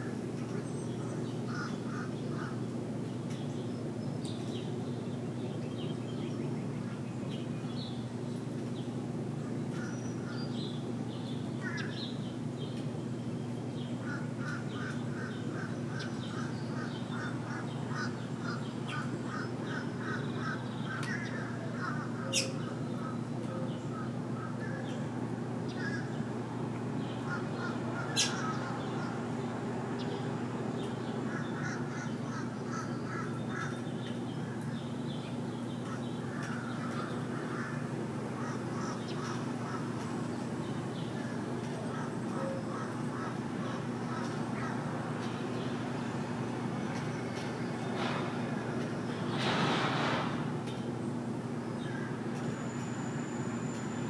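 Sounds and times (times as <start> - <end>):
steady low hum: 0.0 - 54.0
small birds chirping: 0.1 - 49.5.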